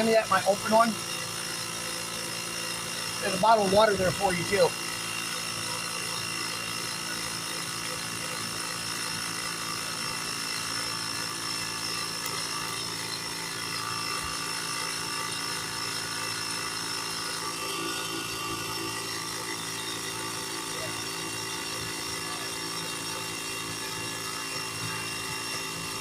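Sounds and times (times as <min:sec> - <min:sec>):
air compressor running: 0:00.0 - 0:26.0.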